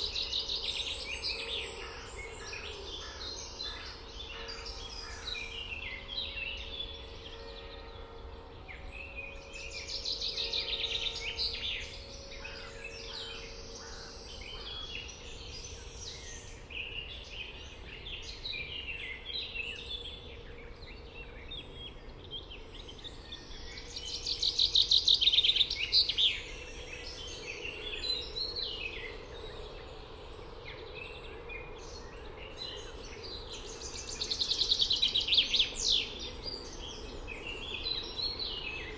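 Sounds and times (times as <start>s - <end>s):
songbirds chirping and whistling: 0.0s - 38.9s.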